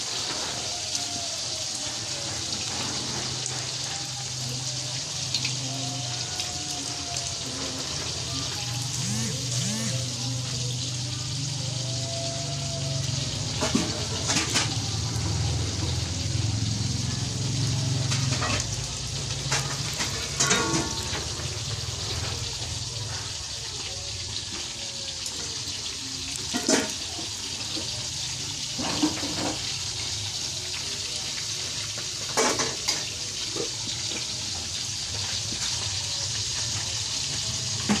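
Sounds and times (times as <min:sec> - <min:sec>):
hot oil sizzling in a wok: 0:00.0 - 0:38.0.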